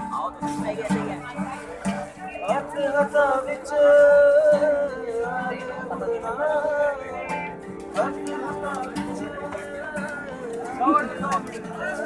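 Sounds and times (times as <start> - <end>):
acoustic guitars: 0.0 - 12.0
man singing: 2.2 - 12.0.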